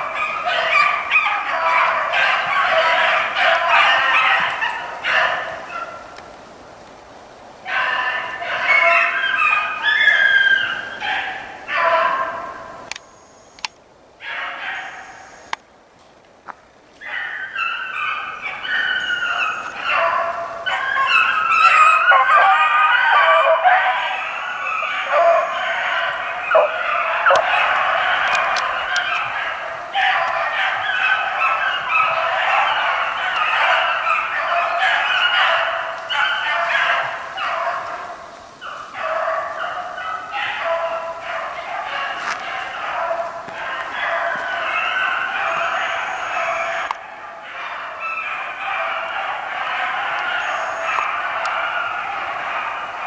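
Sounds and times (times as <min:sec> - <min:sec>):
hounds baying: 0:00.0 - 0:06.2, 0:07.6 - 0:13.0, 0:17.0 - 0:53.0.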